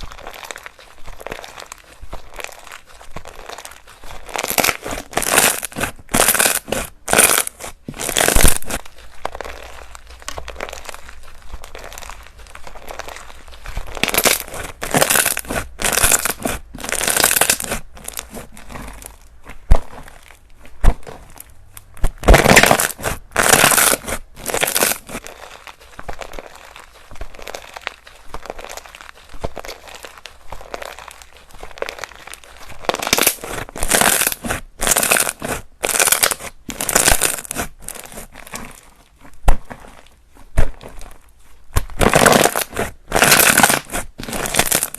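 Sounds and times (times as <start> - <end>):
slime squelching by hand: 0.0 - 44.9.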